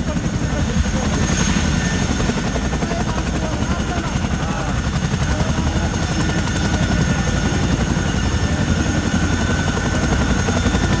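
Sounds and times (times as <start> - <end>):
helicopter rotor chopping: 0.0 - 11.0
turbine whine: 0.0 - 11.0.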